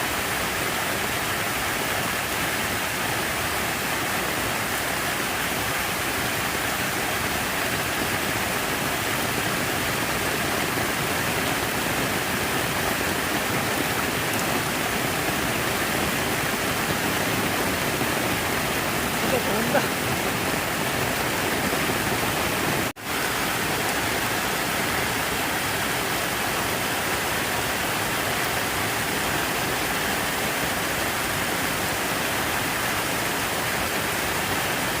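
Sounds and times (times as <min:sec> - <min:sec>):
falling and splashing water: 0:00.0 - 0:35.0.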